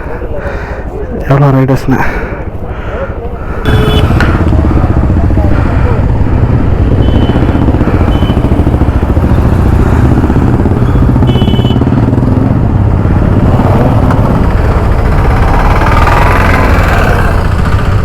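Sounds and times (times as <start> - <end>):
motorcycle engines running: 2.1 - 18.0.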